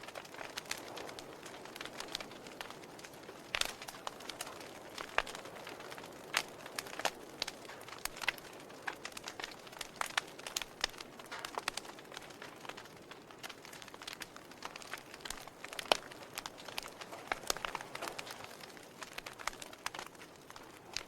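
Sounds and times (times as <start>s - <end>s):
logs crackling in a fireplace: 0.0s - 21.0s
soft steady hiss: 0.0s - 21.0s.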